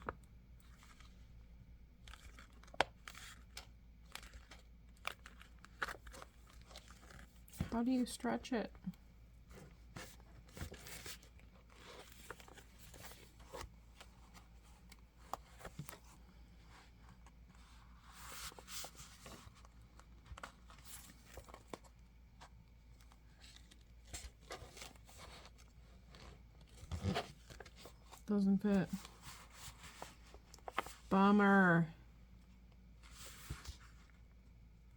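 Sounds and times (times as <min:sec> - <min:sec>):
plastic cover crinkling and rustling: 0:00.0 - 0:08.3, 0:09.5 - 0:16.8, 0:17.6 - 0:31.1.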